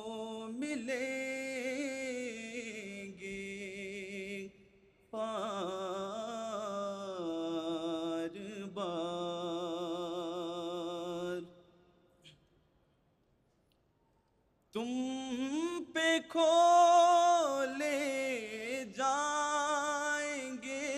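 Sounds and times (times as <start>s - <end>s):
man singing unaccompanied: 0.0s - 4.6s, 5.2s - 11.6s, 14.7s - 20.9s.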